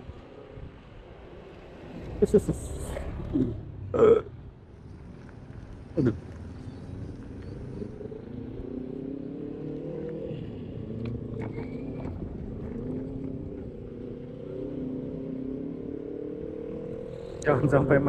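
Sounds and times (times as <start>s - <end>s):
wind and road noise: 0.0s - 18.0s
traffic motor hum: 1.8s - 18.0s.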